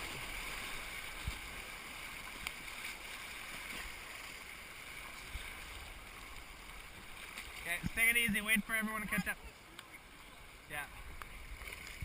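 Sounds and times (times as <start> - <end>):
flowing creek water: 0.0 - 12.0.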